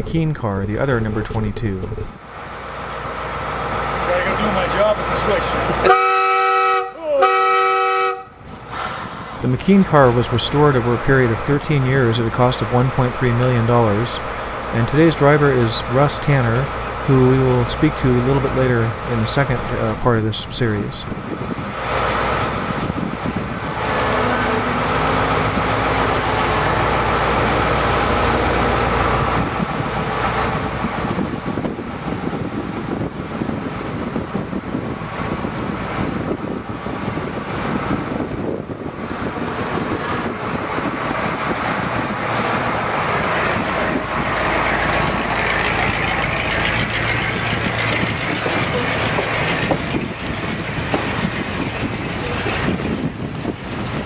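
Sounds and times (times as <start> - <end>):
railcar engine running: 0.0 - 54.0.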